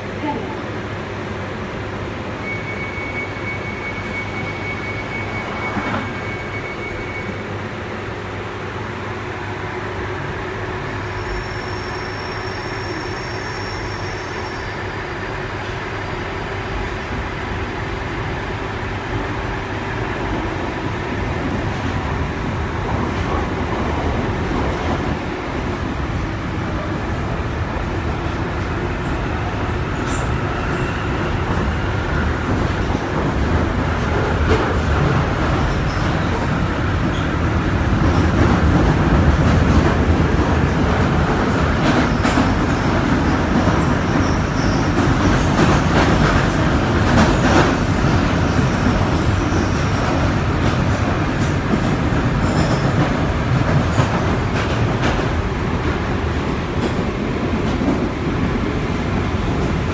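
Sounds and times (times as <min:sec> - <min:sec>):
train wheels rumbling: 0:04.3 - 0:59.9.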